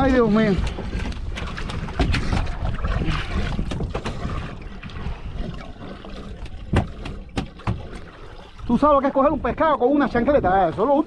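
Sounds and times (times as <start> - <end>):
water sloshing against hull: 0.0 - 11.0
wind buffeting microphone: 0.0 - 11.0.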